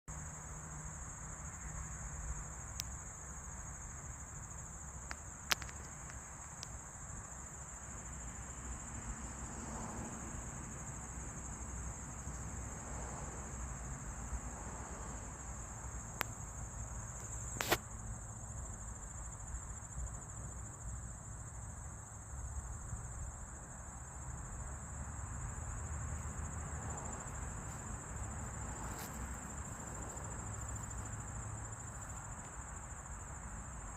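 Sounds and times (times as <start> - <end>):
insects chirping: 0.1 - 33.9.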